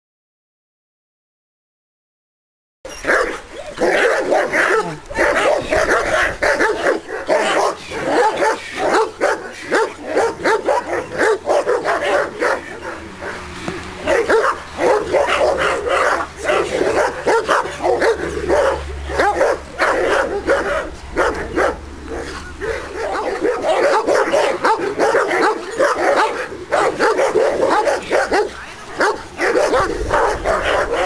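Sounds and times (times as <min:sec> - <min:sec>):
dog barking rapidly: 0:03.0 - 0:13.4, 0:14.0 - 0:31.0.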